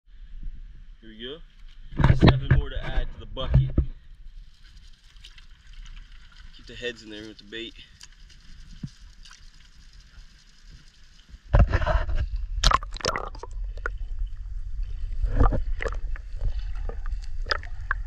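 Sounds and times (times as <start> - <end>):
muffled underwater rumble and sloshing: 0.4 - 18.0.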